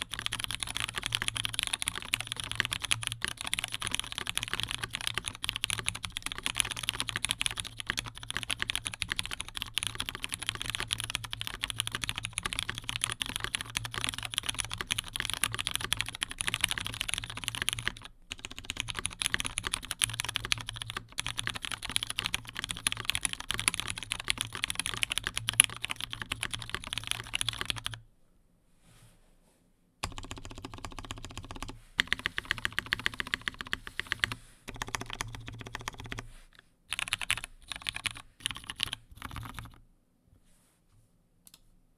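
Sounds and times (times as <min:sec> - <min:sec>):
mechanical keyboard typing: 0:00.0 - 0:28.0, 0:30.0 - 0:36.2, 0:36.9 - 0:39.8.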